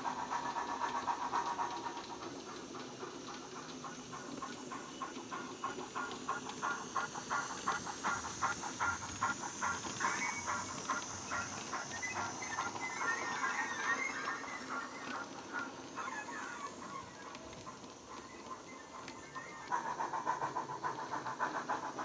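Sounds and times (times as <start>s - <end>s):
model locomotive steam chuffs: 0.0s - 22.0s
steam hiss: 0.0s - 22.0s.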